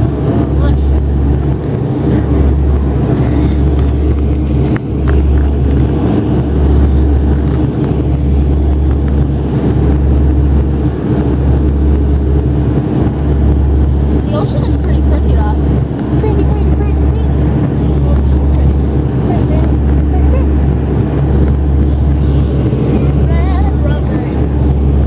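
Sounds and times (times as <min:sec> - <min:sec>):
constant rushing noise: 0:00.0 - 0:25.0
turboprop engine drone: 0:00.0 - 0:25.0.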